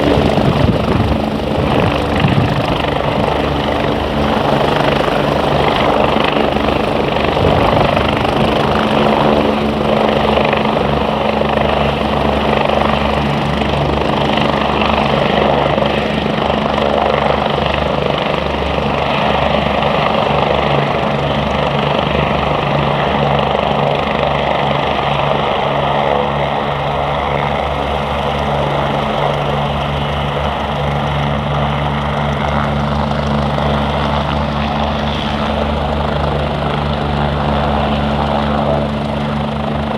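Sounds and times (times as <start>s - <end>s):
helicopters droning: 0.0s - 39.9s.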